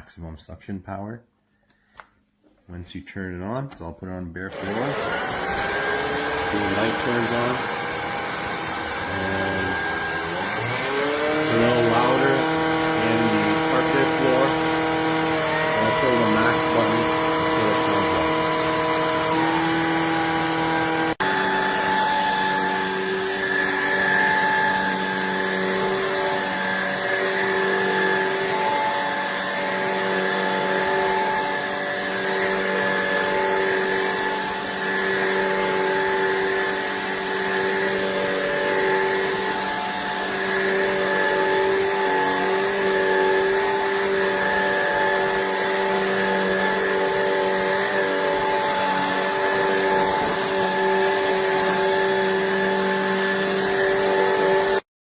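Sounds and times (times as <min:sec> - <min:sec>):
stick vacuum motor whine: 0:04.5 - 0:54.9.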